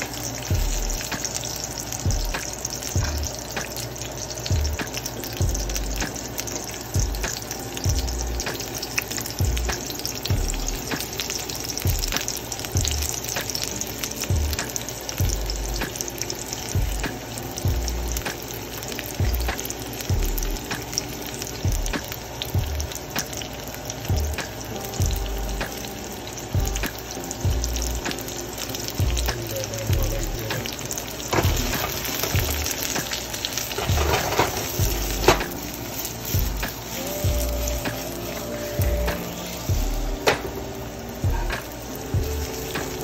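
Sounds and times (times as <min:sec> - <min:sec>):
background music with low beat: 0:00.0 - 0:43.0
onions sizzling in hot oil: 0:00.0 - 0:43.0.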